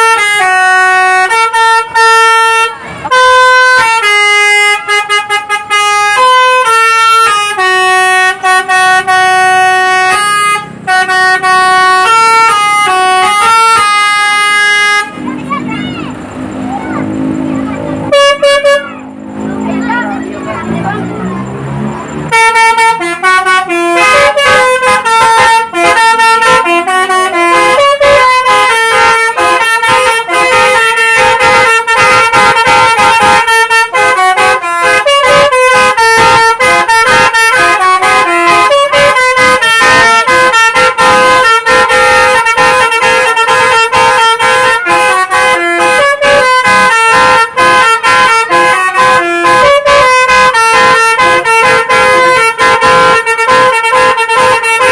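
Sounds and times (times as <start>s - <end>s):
bus horn playing a melody: 0.0s - 54.9s.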